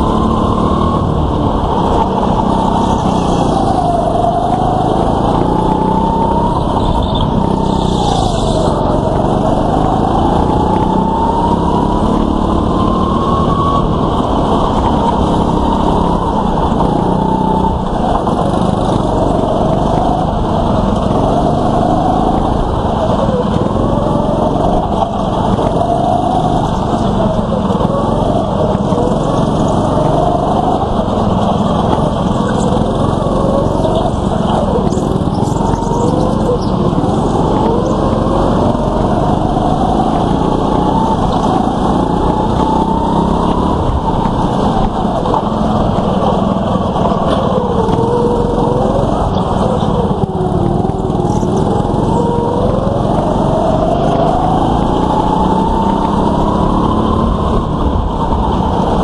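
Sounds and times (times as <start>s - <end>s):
go-kart engines revving: 0.0s - 59.0s.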